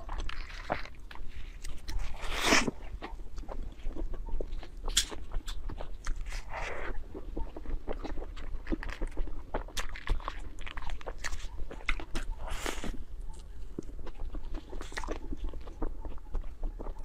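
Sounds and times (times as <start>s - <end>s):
person chewing with wet smacking: 0.0s - 17.0s.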